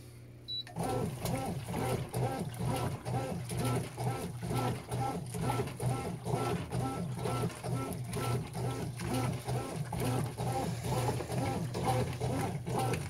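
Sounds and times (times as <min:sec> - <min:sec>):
washing machine motor hum: 0:00.0 - 0:13.0
washing machine whir and slosh: 0:00.0 - 0:13.0.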